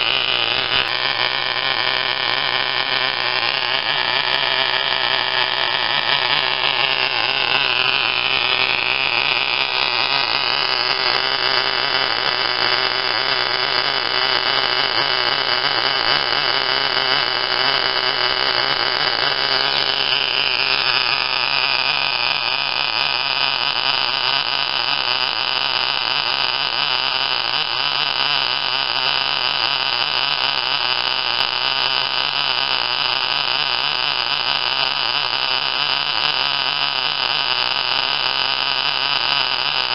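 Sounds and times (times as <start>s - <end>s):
model engine buzzing: 0.0s - 39.9s.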